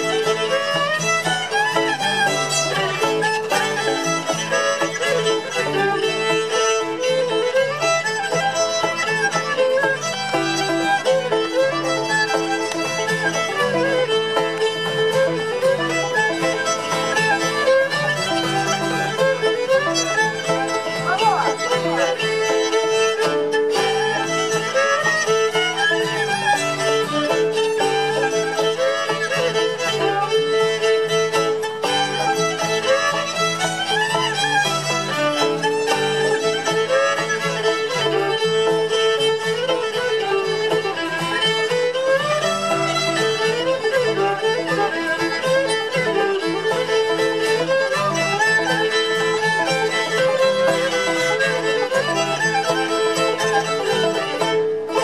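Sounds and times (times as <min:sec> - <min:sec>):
fiddles bowing melody: 0:00.0 - 0:55.0
guitar and banjo backing: 0:00.0 - 0:55.0.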